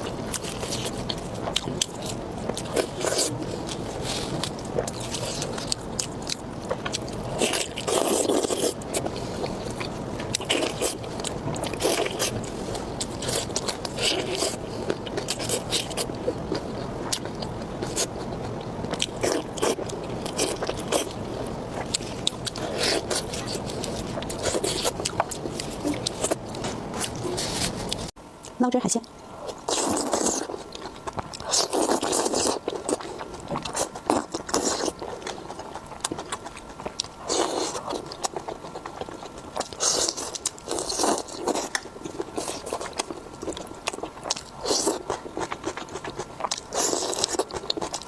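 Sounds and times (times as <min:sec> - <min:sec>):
person biting and chewing food: 0:00.0 - 0:28.6, 0:29.4 - 0:48.0.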